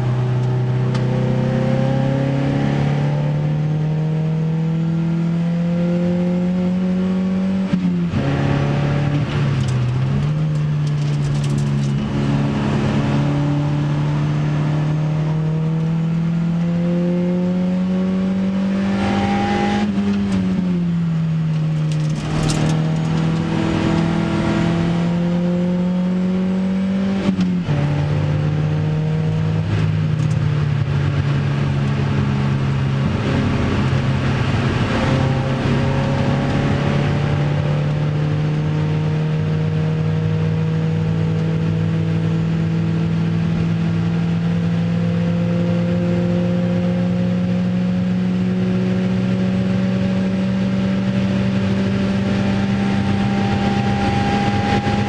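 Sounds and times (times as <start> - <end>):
car engine at full throttle: 0.0 - 55.0.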